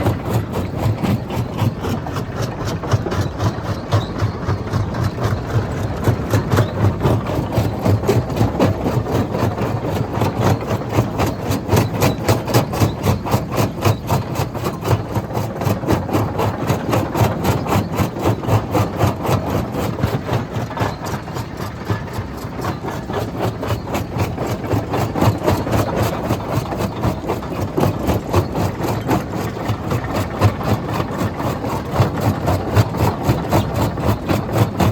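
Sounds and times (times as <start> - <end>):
rock crusher machine running: 0.0 - 34.9.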